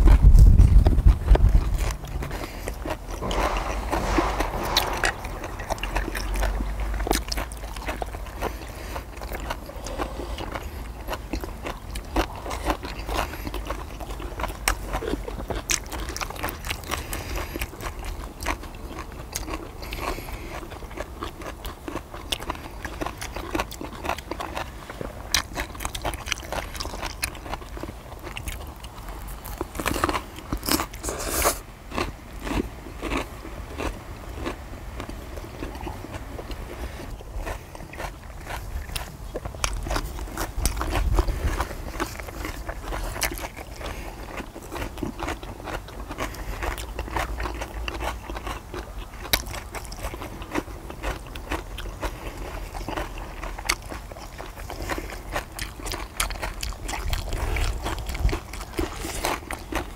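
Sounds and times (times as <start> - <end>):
crunchy chewing and biting: 0.0 - 59.9.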